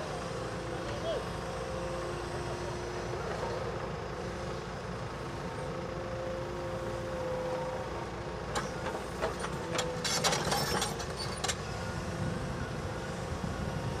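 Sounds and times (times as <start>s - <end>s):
diesel engines humming: 0.0s - 14.0s.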